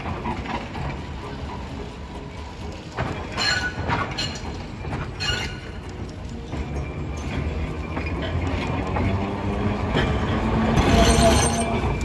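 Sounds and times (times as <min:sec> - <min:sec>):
tram rumbling: 0:00.0 - 0:12.0
wheels clacking on rails: 0:00.0 - 0:12.0.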